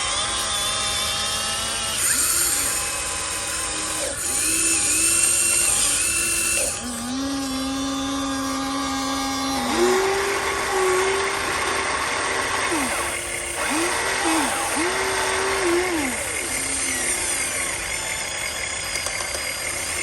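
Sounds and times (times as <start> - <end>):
small electric motors whining: 0.0 - 20.0.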